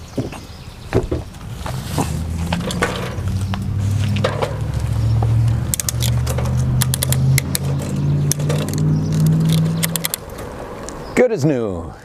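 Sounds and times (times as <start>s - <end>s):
vehicle engine droning: 0.7s - 12.0s.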